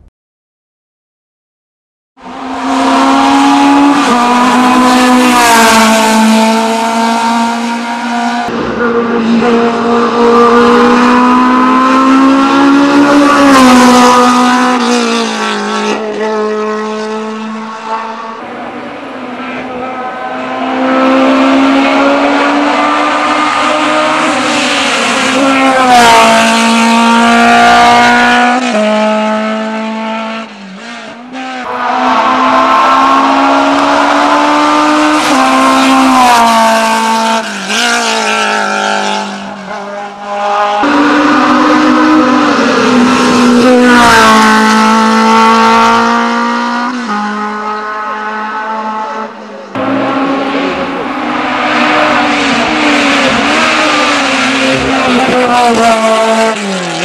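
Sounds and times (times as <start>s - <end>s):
race car engine accelerating: 2.2s - 57.0s.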